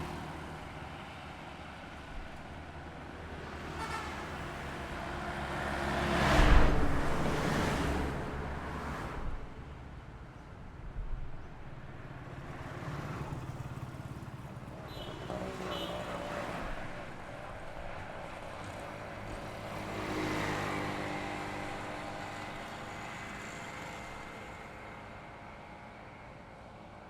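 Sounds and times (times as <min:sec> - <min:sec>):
highway traffic passing: 0:00.0 - 0:27.0.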